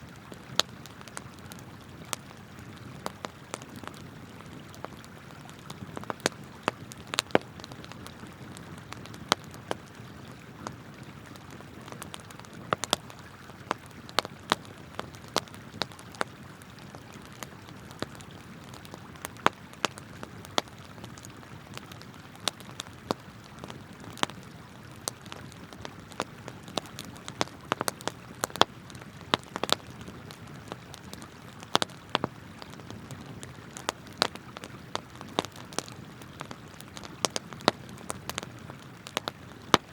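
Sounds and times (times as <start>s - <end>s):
campfire popping and crackling: 0.0s - 39.9s.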